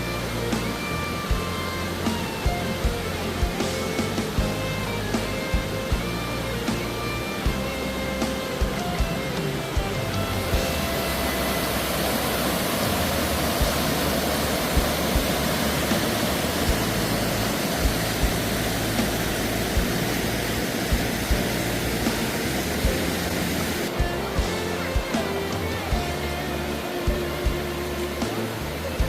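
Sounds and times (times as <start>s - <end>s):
faint music with low beat: 0.0s - 29.0s
waterfall rushing: 0.0s - 29.0s.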